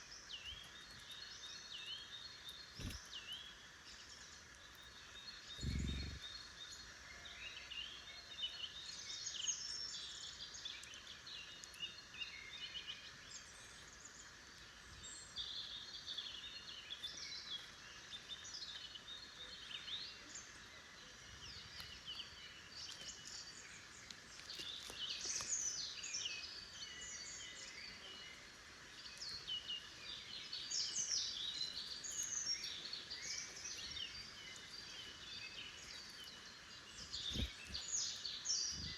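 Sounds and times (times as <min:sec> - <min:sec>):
faint steady hiss: 0:00.0 - 0:38.9
songbirds chirping and trilling: 0:00.0 - 0:38.9.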